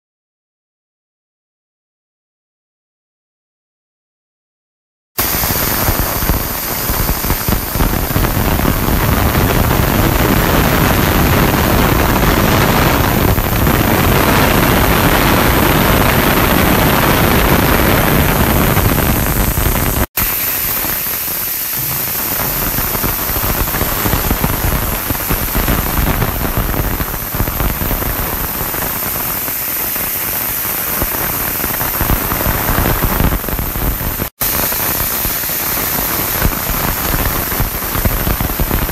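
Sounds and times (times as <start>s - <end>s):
ultrasonic cleaning tank hissing: 5.2s - 38.9s.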